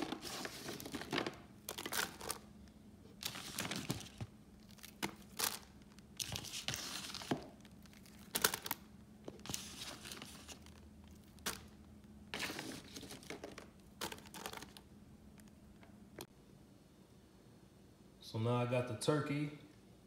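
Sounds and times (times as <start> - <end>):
plastic liner crinkling: 0.0 - 16.3.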